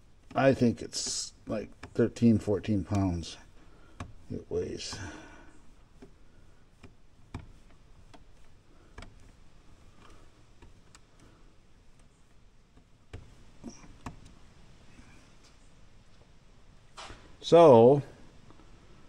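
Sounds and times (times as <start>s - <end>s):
small parts clicking and tapping: 0.0s - 15.6s.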